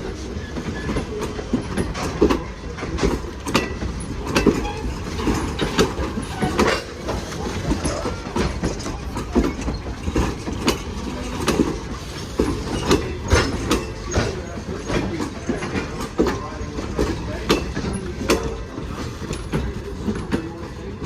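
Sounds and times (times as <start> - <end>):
low train rumble: 0.0 - 21.0
train wheels clacking: 0.0 - 21.0.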